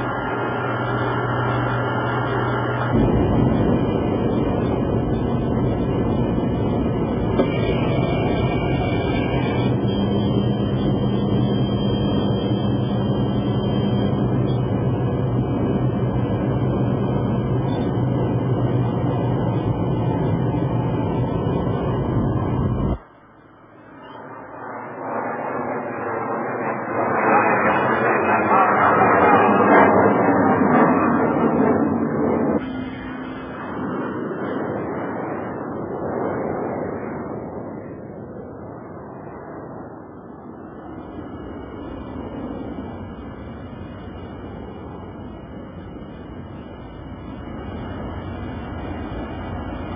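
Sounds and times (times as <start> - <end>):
airplane engines droning: 0.0 - 49.9.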